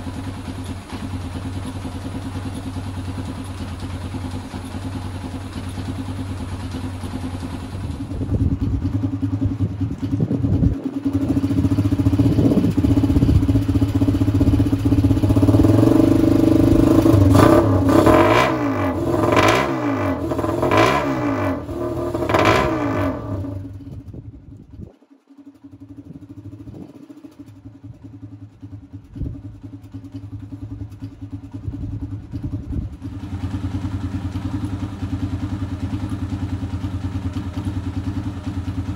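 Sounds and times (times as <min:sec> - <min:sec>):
rickshaw engine idling and revving: 0:00.0 - 0:38.9.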